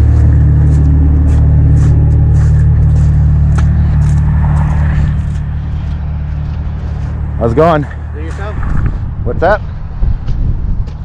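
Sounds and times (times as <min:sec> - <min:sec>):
engine idling: 0:00.0 - 0:09.8.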